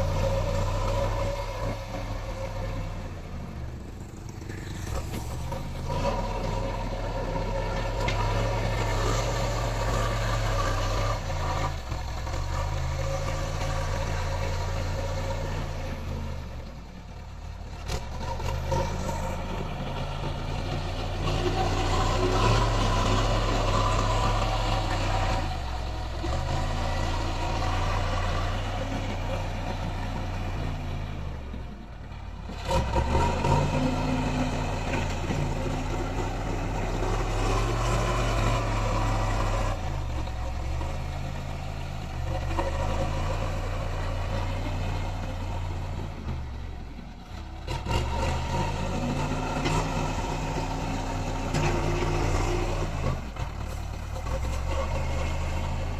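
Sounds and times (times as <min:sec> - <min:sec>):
diesel engine of heavy machinery: 0:00.0 - 0:55.9.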